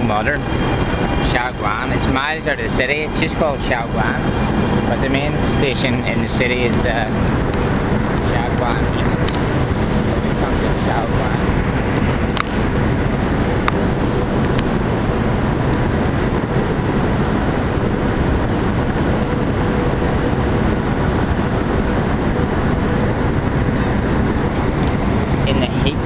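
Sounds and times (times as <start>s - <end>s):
faint hum: 0.0s - 26.0s
high-speed train rushing: 0.0s - 26.0s.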